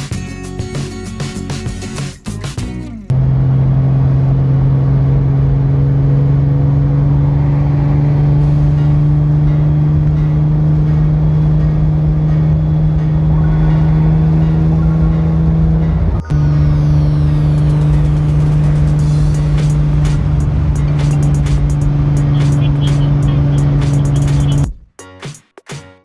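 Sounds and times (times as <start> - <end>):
car engine droning: 2.8 - 24.7.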